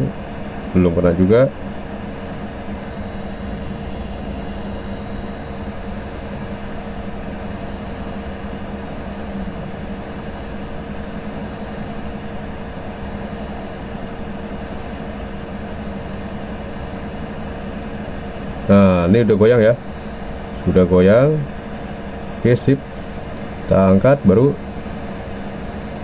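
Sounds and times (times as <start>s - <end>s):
hot air station blowing: 0.0s - 26.0s.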